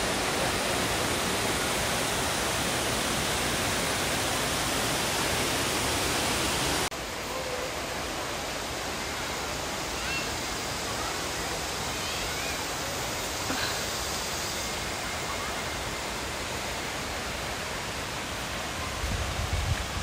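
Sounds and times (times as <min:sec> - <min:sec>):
water cascading over rocks: 0:00.0 - 0:20.0.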